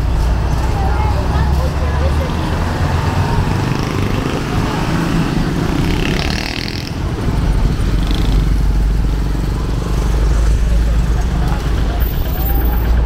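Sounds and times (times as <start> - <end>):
street traffic engines: 0.0 - 13.0.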